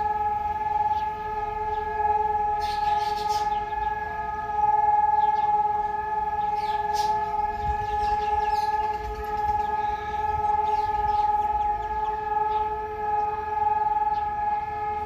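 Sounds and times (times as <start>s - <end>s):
siren steady tone: 0.0s - 15.0s.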